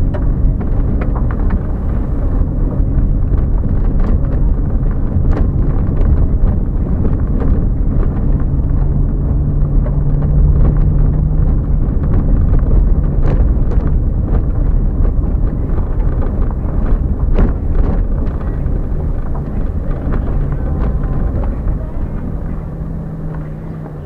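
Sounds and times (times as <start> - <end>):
faint engine hum: 0.0 - 24.0
tyres rumbling on dirt road: 0.0 - 24.0.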